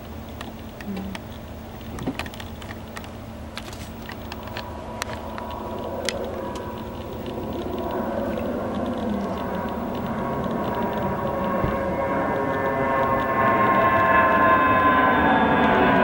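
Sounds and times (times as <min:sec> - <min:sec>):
jet engines rushing and whining: 0:00.0 - 0:16.0
sharp clicks: 0:00.2 - 0:13.9.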